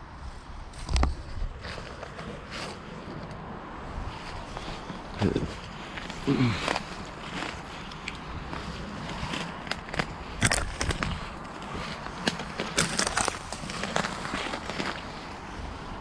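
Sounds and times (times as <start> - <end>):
wind buffeting microphone: 0.0 - 16.0
rustling and crackling: 0.3 - 16.0.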